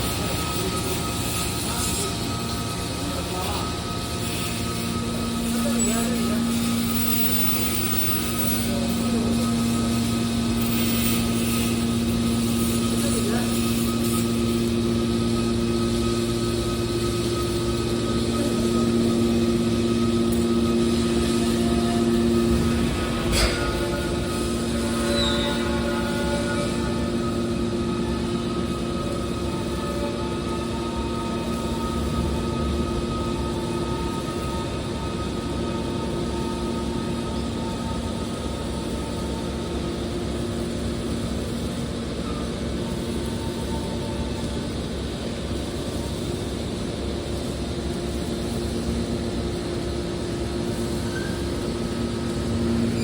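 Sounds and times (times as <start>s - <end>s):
constant whining tones: 0.0s - 53.0s
hydraulic baler machine hum: 0.0s - 53.0s.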